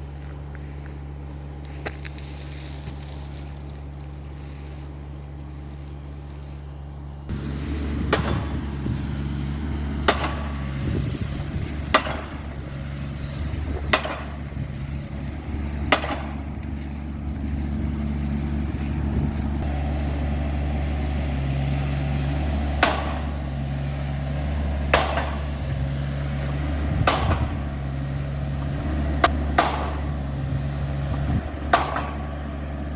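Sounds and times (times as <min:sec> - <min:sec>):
engine humming: 0:00.0 - 0:32.9.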